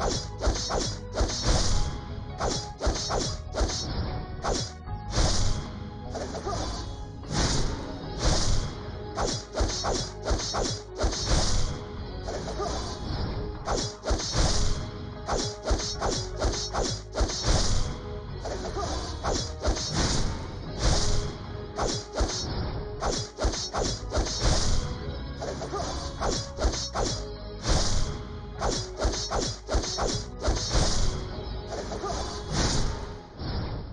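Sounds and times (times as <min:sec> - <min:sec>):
music playing: 0:00.0 - 0:33.4.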